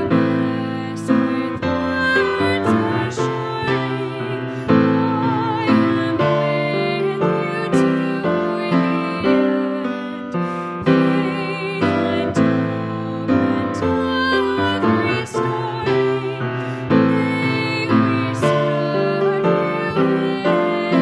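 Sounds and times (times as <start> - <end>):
piano accompaniment: 0.0 - 21.0
woman singing a hymn: 0.0 - 21.0.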